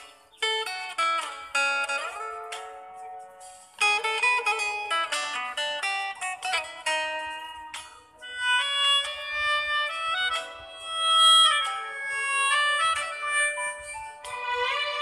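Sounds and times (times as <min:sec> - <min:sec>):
plucked-string melody: 0:00.0 - 0:15.0.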